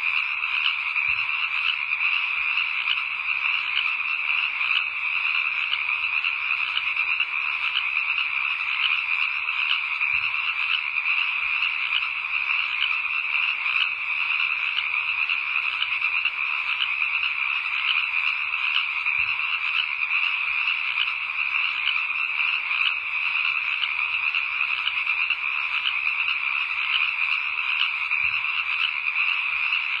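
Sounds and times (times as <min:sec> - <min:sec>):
chorus of frogs calling: 0:00.0 - 0:30.0.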